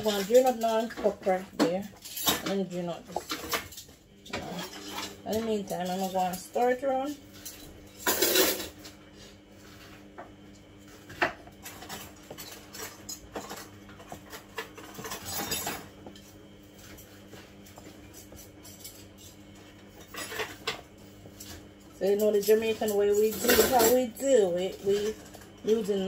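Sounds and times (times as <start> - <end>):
wooden spoon stirring in bowl: 0.0 - 3.7, 4.3 - 7.5, 10.8 - 26.0.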